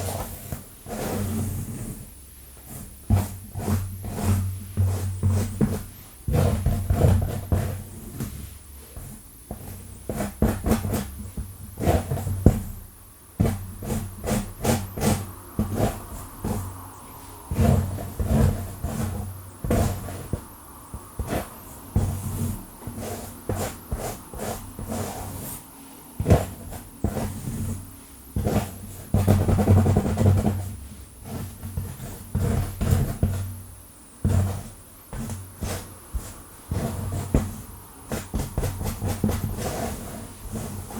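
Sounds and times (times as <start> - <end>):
fingernails scratching scalp: 0.0 - 12.7, 13.4 - 16.9, 17.5 - 33.5, 34.2 - 40.9.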